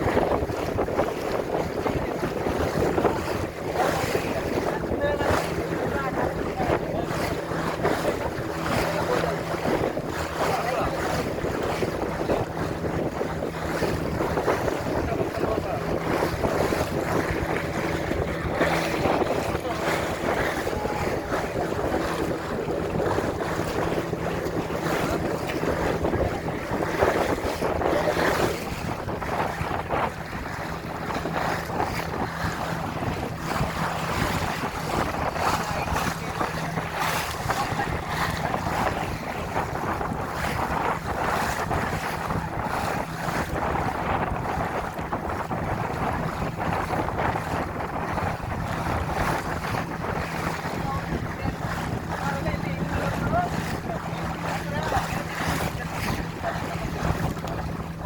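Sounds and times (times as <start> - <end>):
boat motor humming: 0.0 - 58.0
water splashing along hull: 0.0 - 58.0
wind buffeting microphone: 0.0 - 58.0.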